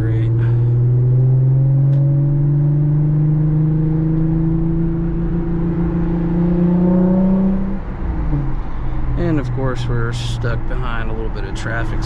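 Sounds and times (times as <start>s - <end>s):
car exhaust drone from cabin: 0.0s - 12.0s.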